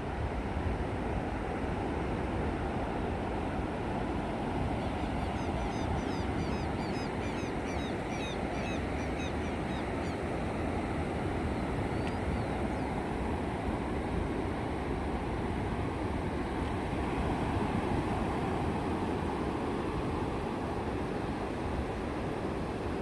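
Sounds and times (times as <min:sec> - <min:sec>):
sea surf on shore: 0:00.0 - 0:23.0.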